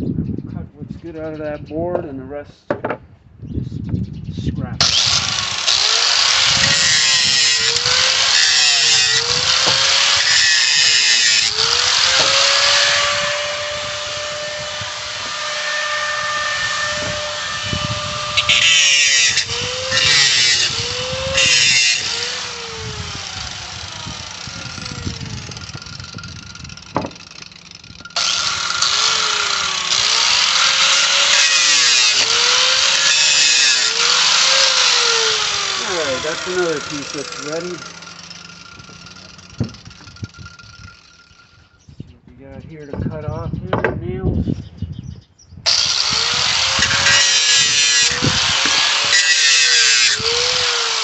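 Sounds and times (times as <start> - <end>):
angle grinder cutting metal: 4.8 - 41.7, 45.7 - 51.0.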